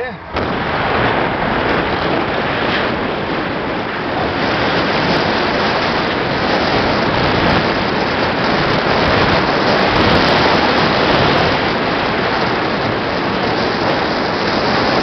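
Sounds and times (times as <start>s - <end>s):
tyre and road noise: 0.0s - 15.0s
wind rushing over microphone: 0.0s - 15.0s.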